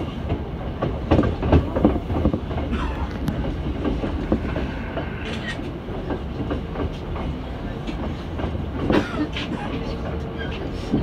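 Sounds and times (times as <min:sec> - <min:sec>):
train rumble: 0:00.0 - 0:11.0
train wheels clattering over joints: 0:00.0 - 0:11.0.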